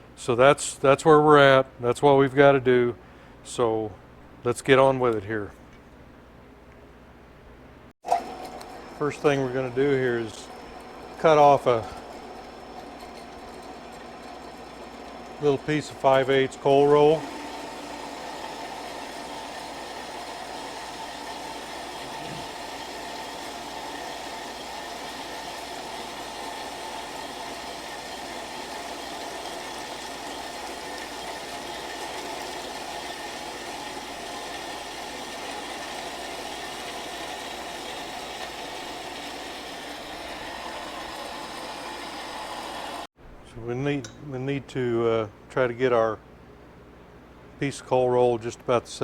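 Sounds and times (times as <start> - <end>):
mechanical hum and whir: 2.9 - 49.0.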